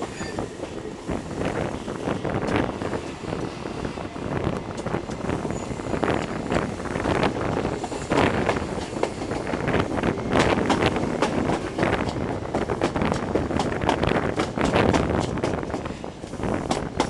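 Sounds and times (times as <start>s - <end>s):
train wheels rumbling on track: 0.0s - 17.0s
wind buffeting microphone: 0.0s - 17.0s.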